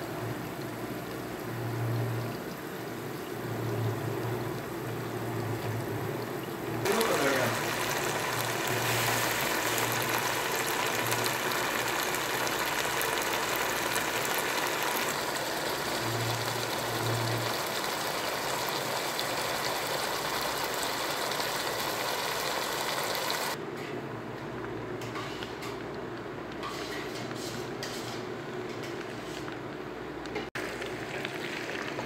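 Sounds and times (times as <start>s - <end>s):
food sizzling in a frying pan: 0.0s - 23.6s, 26.6s - 29.5s.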